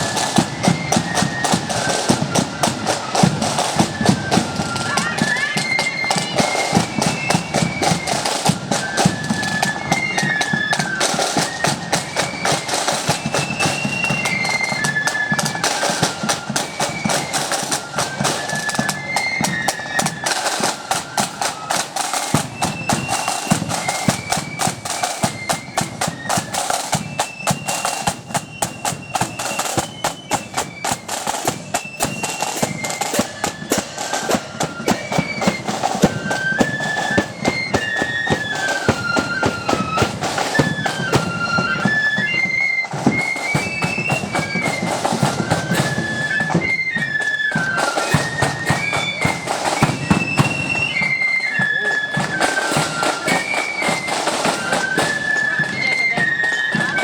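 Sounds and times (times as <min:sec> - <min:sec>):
high flute melody: 0:00.0 - 0:57.0
rapid snare drum strokes: 0:00.0 - 0:57.0.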